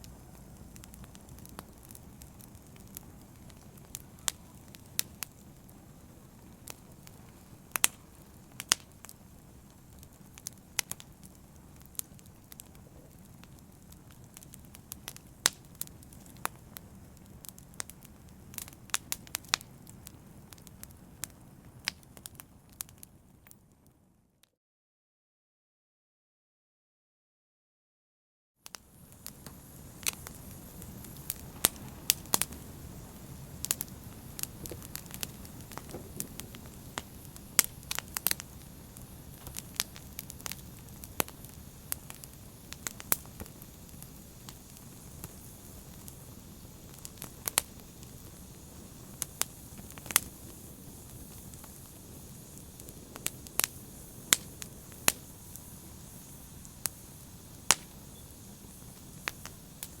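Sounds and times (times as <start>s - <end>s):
low rush of burning flames: 0.0s - 23.6s, 28.7s - 60.0s
open fire crackling: 0.0s - 24.1s, 28.6s - 60.0s.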